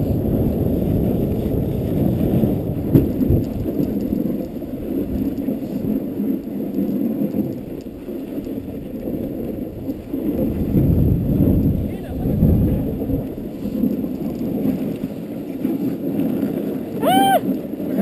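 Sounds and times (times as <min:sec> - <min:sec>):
sled rumbling over snow: 0:00.0 - 0:18.0.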